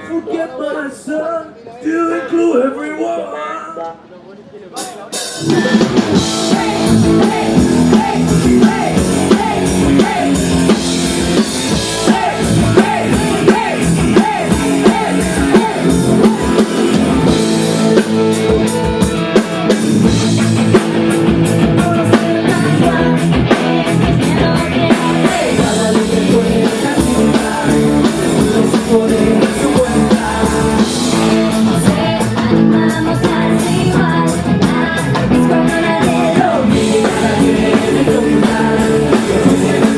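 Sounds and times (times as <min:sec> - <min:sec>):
drum kit: 0:04.8 - 0:39.9
electric guitar: 0:05.3 - 0:39.9
person singing: 0:05.4 - 0:19.4, 0:21.4 - 0:39.9.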